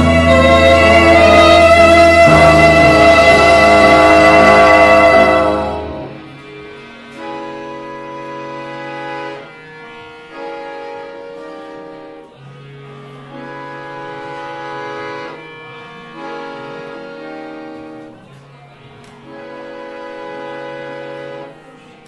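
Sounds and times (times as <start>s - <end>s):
accordion: 0.0s - 22.0s
tango ensemble playing: 0.0s - 22.0s
violin: 0.0s - 22.0s.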